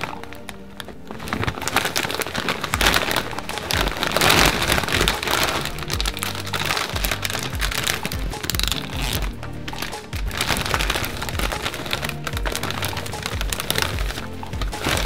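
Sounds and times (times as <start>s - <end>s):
background music with bass: 0.0s - 15.0s
crackling and rustling: 0.0s - 15.0s.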